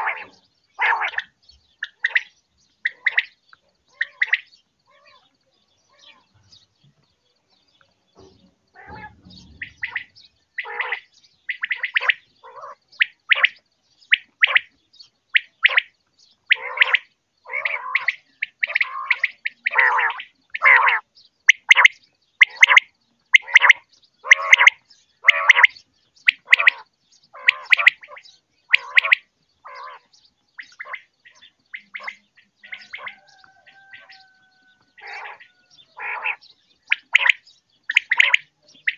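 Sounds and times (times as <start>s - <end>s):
quail calling: 0.0s - 5.3s, 8.8s - 15.9s, 16.5s - 38.9s.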